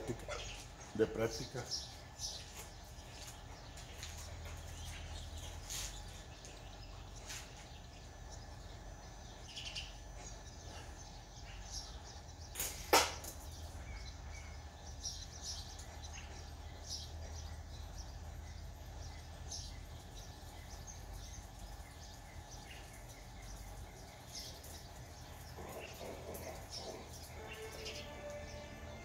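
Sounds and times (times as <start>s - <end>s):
birds chirping faintly: 0.0s - 29.0s.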